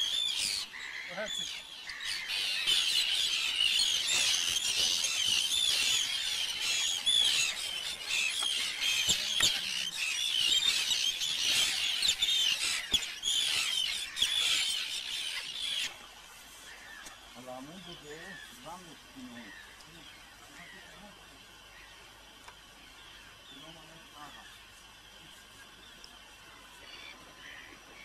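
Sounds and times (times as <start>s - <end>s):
seabirds calling: 0.0s - 28.0s.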